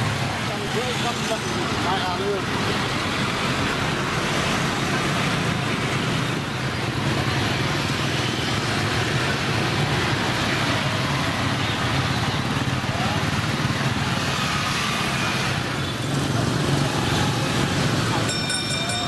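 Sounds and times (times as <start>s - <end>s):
motorbike engines passing: 0.0s - 19.0s.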